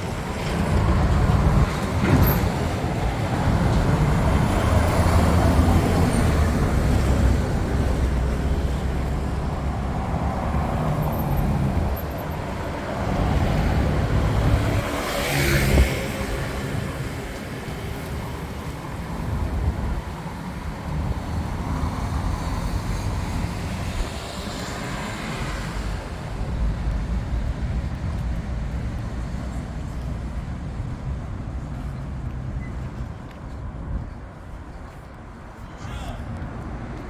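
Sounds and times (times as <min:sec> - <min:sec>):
street traffic noise: 0:00.0 - 0:37.0.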